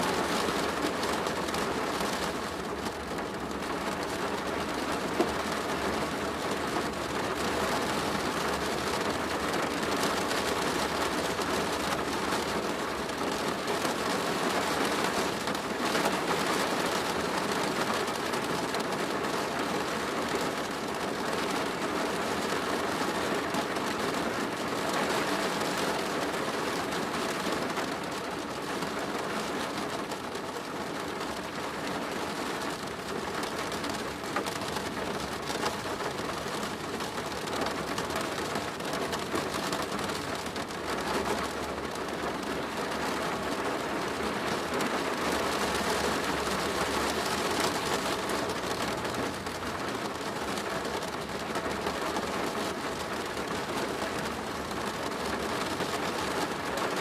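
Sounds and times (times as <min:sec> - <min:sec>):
rain on a plastic roof: 0:00.0 - 0:57.0.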